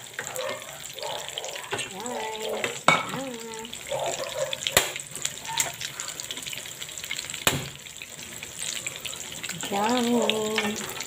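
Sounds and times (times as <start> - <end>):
broth bubbling in a pot: 0.0 - 11.0.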